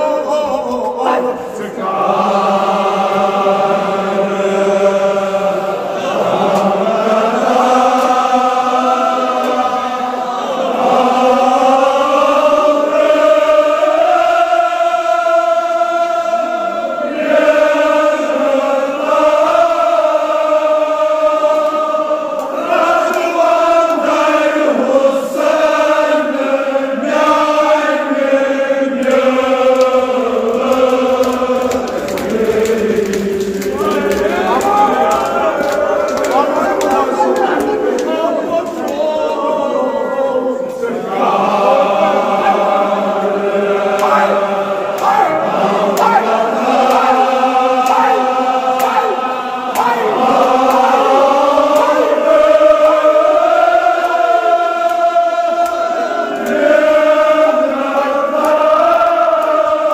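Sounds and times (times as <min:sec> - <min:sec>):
men chanting mourning elegy: 0:00.0 - 0:59.9.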